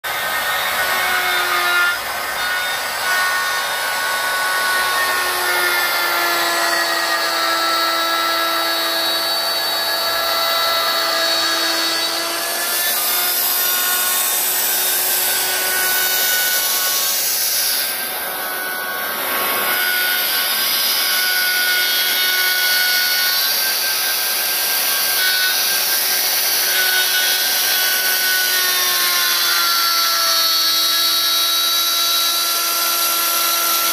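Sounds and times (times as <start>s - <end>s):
router cutting wood: 0.0s - 33.9s.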